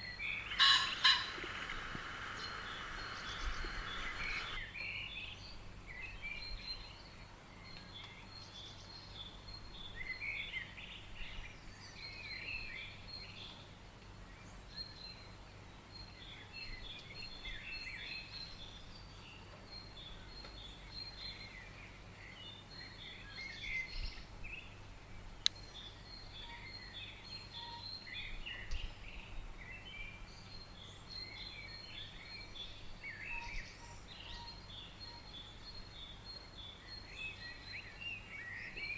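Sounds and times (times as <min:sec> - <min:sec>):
low background hum: 0:00.0 - 0:38.9
small birds chirping: 0:00.0 - 0:38.9.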